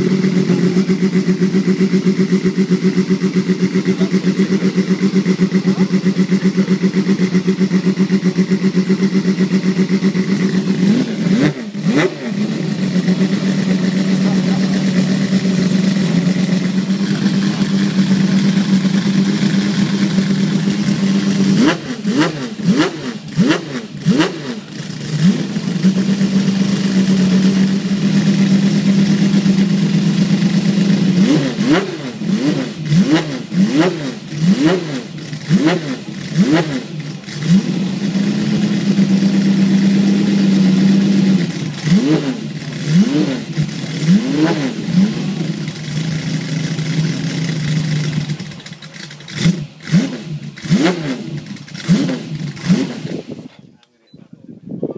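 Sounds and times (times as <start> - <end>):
car engine idling: 0.0 - 53.9
engine throttle blips: 0.0 - 54.5.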